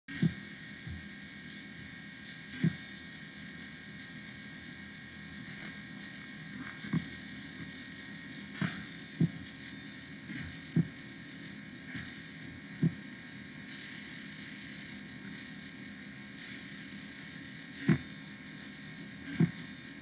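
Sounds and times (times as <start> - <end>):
steady hiss: 0.1 - 20.0.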